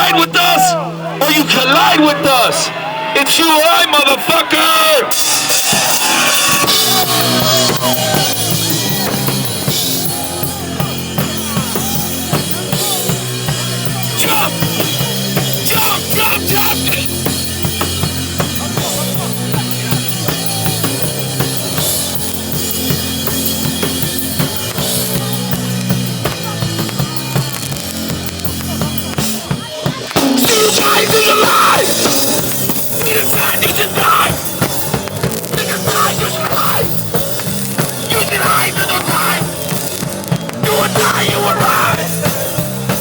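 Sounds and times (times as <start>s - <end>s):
live punk band playing loud: 5.0s - 43.0s.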